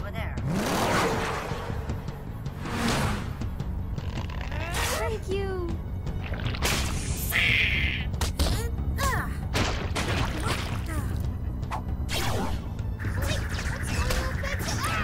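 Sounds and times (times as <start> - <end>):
cartoon background music: 0.0 - 15.0.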